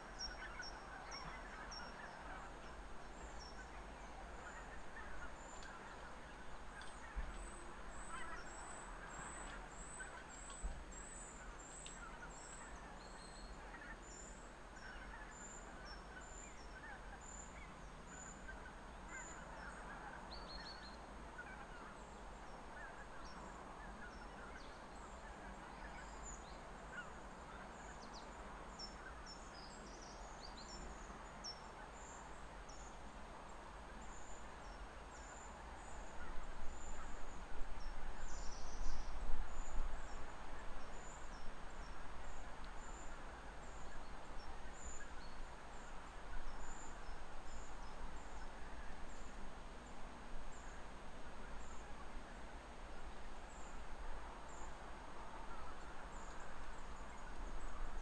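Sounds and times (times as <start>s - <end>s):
distant waterfowl chatter: 0.0s - 49.4s.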